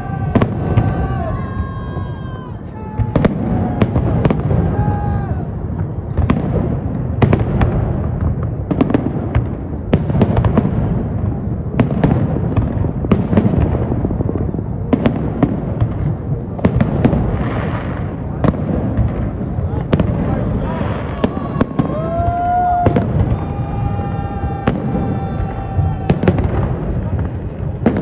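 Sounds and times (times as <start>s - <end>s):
fireworks bangs and cracks: 0.0s - 28.0s
low rumble of echoing bursts: 0.0s - 28.0s.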